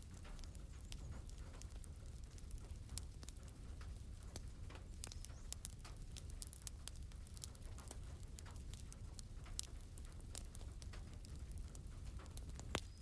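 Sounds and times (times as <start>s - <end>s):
soft rain patter: 0.0s - 13.0s
wood fire crackling and popping: 0.0s - 13.0s.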